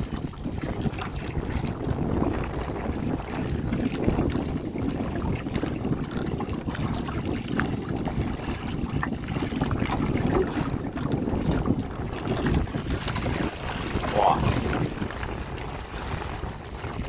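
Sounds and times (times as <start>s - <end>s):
water around a boat: 0.0s - 17.0s
wind rumbling on microphone: 0.0s - 17.0s.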